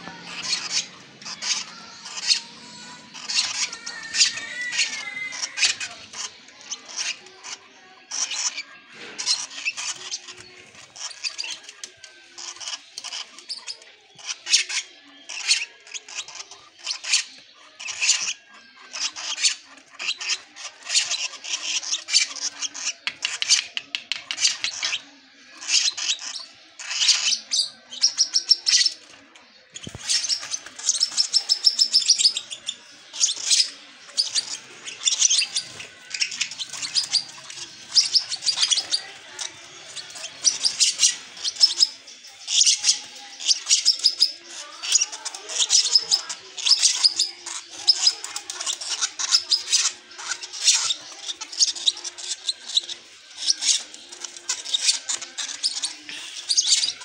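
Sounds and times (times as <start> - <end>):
bird chicks chirping: 0.0 - 57.0.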